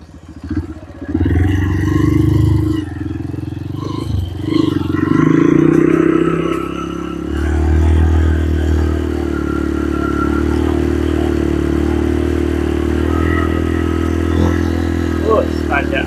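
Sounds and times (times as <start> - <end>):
motorcycle engine under load: 0.0 - 16.0.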